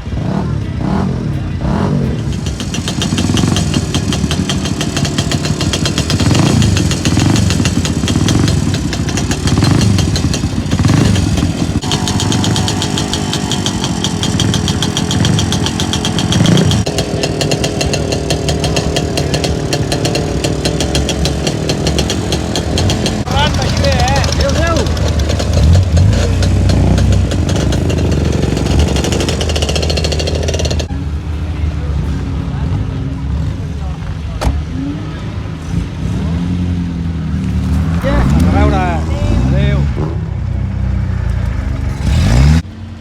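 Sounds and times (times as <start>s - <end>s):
car and motorcycle engines revving: 0.0s - 43.0s
vehicles driving past: 0.0s - 43.0s.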